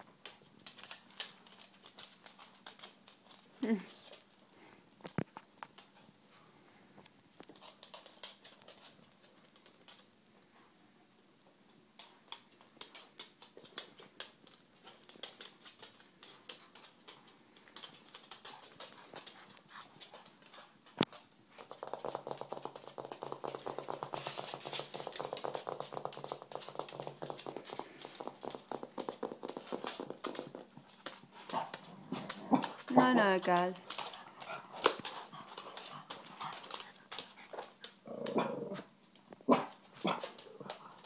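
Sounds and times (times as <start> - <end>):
dog claws clicking on wooden floor: 0.0 - 4.4, 7.4 - 10.1, 12.0 - 38.4.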